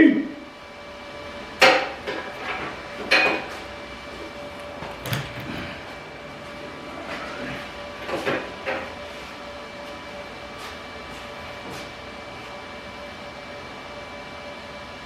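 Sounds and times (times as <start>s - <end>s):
faint mechanical hum: 0.0s - 15.0s.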